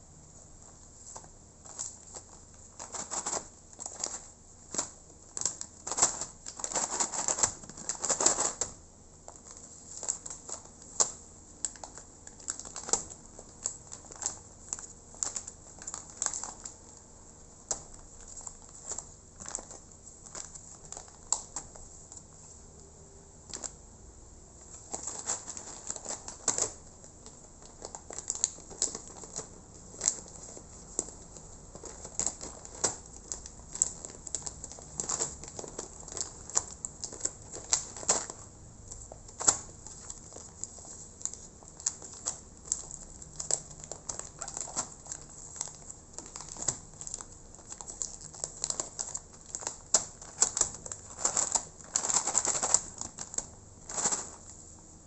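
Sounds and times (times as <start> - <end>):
plastic packaging crinkling: 1.0 - 22.5, 24.6 - 54.8.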